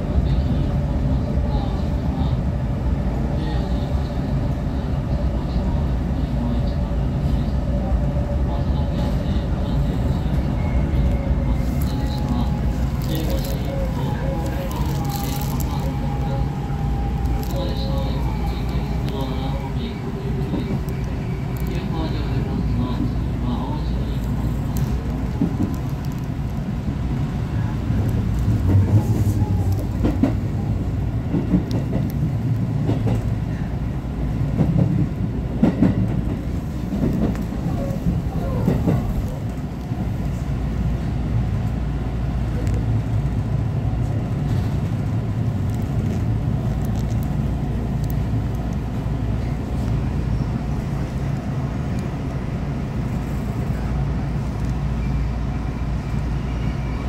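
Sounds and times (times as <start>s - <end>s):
electric train rumbling: 0.0s - 57.0s
train standing hum: 0.0s - 57.0s.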